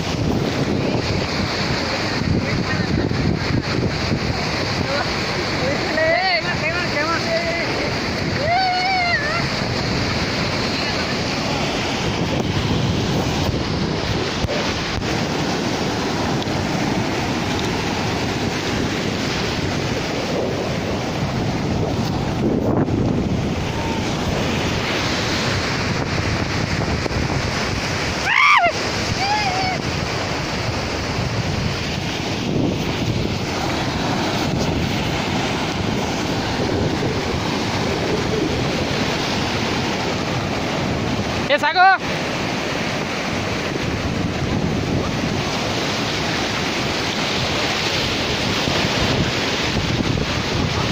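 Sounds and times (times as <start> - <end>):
ocean surf breaking on sand: 0.0 - 50.9
wind buffeting microphone: 0.0 - 50.9.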